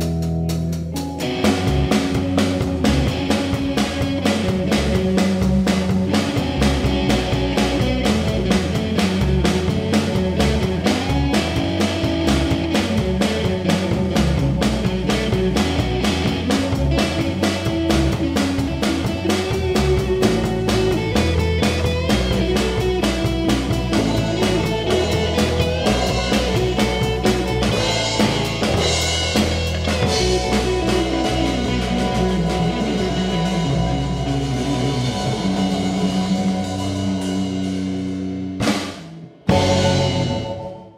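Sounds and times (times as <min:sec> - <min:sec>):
rock music with drums and guitar: 0:00.0 - 0:40.9.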